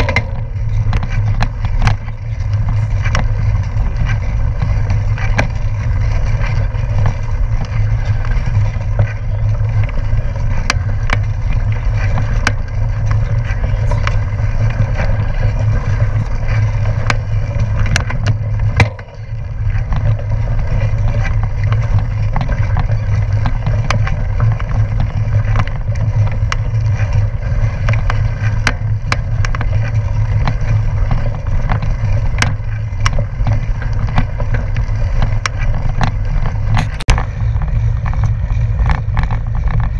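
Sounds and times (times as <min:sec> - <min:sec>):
bike rolling on gravel: 0:00.0 - 0:39.9
wind buffeting microphone: 0:00.0 - 0:39.9.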